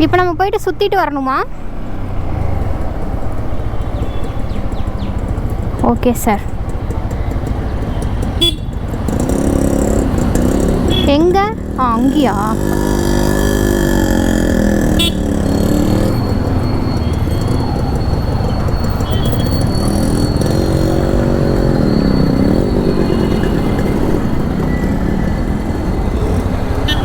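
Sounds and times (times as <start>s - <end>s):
wind and road noise: 0.0s - 27.0s
motorcycle engine running: 2.6s - 27.0s.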